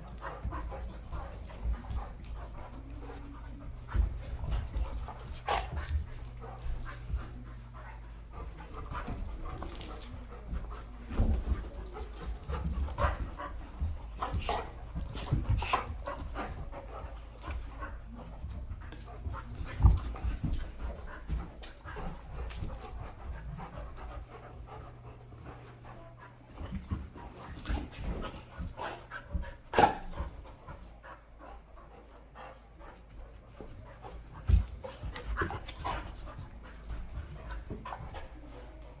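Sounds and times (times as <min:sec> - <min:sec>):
dogs panting: 0:00.0 - 0:39.0
dogs scuffling: 0:00.0 - 0:39.0.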